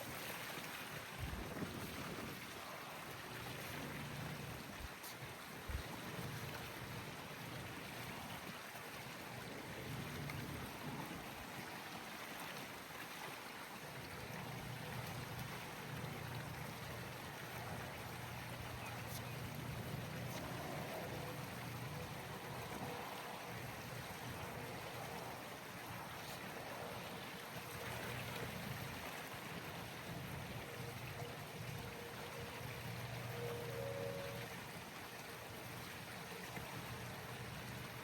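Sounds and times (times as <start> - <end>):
steady water noise: 0.0 - 38.0.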